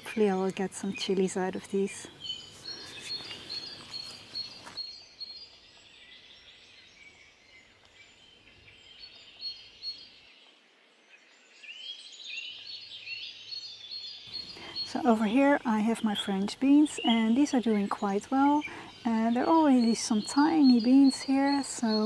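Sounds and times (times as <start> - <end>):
faint outdoor background noise: 0.0 - 22.0
small birds chirping: 0.0 - 22.0.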